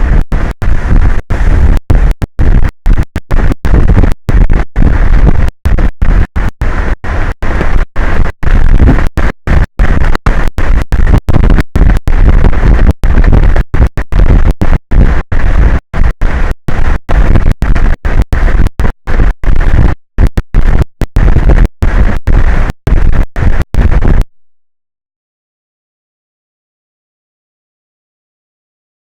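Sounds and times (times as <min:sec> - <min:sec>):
rough wind noise on microphone: 0:00.0 - 0:24.3.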